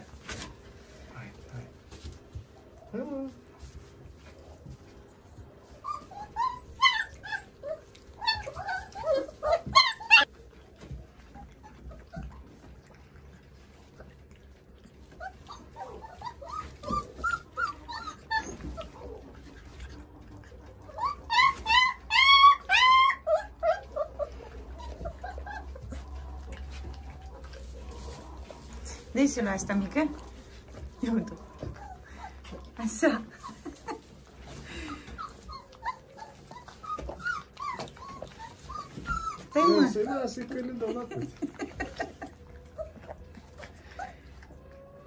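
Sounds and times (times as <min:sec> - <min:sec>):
puppies whining and yelping: 0:02.4 - 0:45.0.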